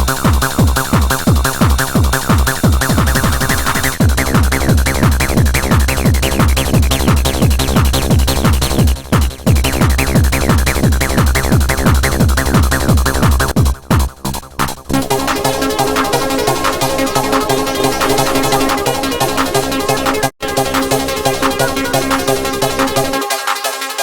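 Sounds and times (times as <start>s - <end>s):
hard techno dance music: 0.0s - 24.0s.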